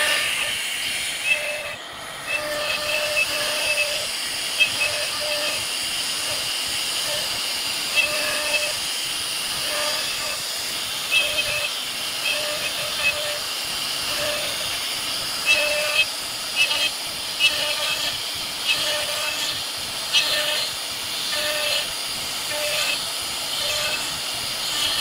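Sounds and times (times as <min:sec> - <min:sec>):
router spindle cutting wood: 0:00.0 - 0:25.0.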